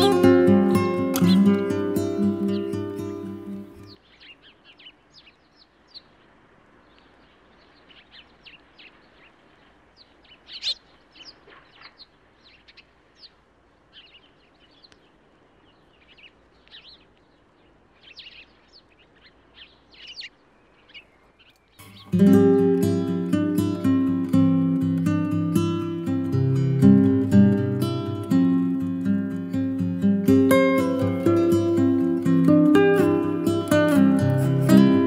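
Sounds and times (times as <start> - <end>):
faint outdoor background noise: 0.0 - 35.0
small songbirds chirping: 0.0 - 35.0.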